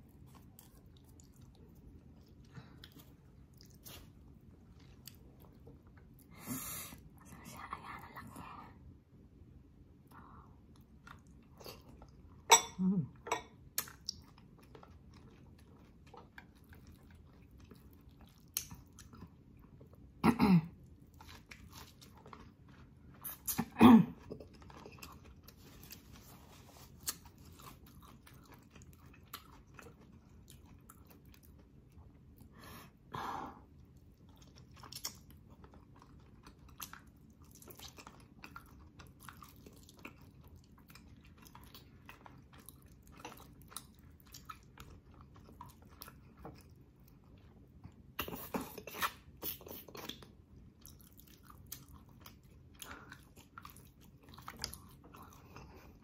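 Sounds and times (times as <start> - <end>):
wet chewing and smacking: 0.0 - 6.3, 13.5 - 20.2, 20.8 - 32.5, 33.6 - 56.0.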